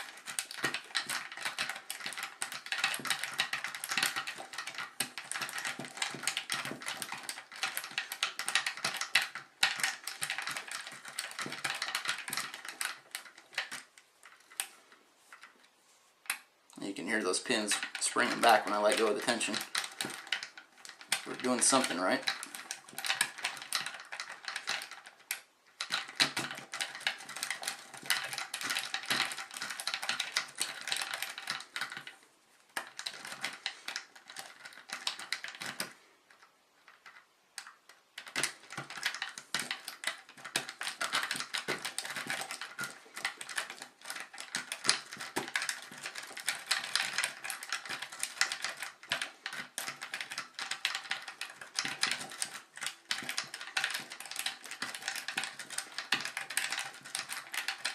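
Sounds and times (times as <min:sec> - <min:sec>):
lock pins clicking rapidly: 0:00.0 - 0:14.8, 0:17.2 - 0:32.1, 0:32.8 - 0:36.0, 0:37.0 - 0:57.9.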